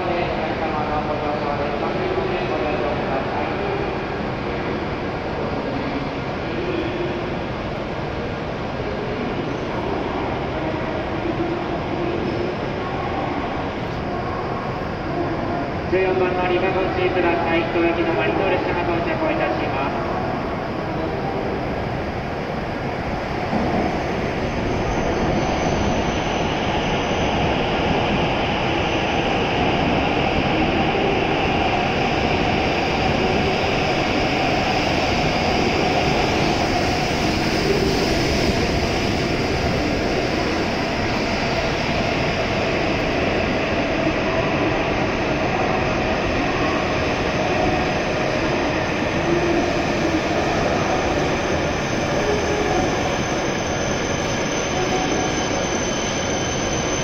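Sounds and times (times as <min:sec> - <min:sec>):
high-speed train running past: 0:00.0 - 0:57.0.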